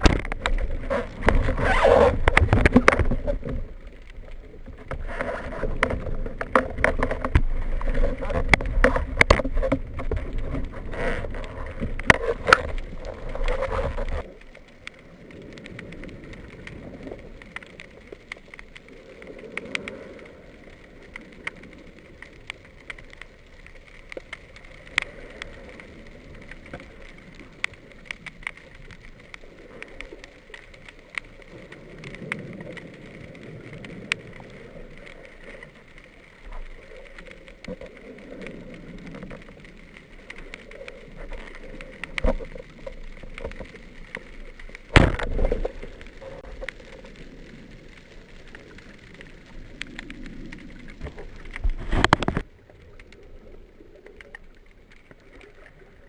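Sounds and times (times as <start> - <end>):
rush of water movement: 0.0 - 56.0
underwater clicks and crackles: 0.0 - 56.0
underwater water noise: 0.0 - 56.0.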